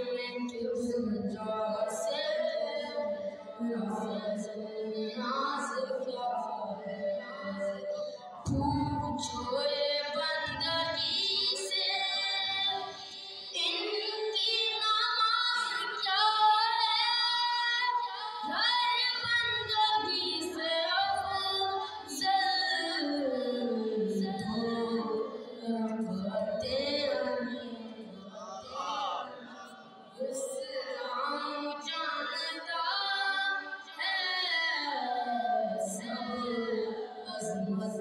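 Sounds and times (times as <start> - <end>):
boy chanting devotional song: 0.0 - 38.0.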